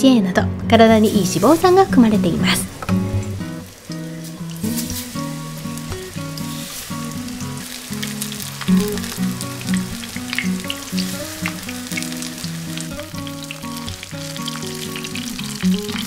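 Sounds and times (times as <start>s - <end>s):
soft background music: 0.0s - 16.0s
fish sizzling in oil: 1.0s - 16.0s.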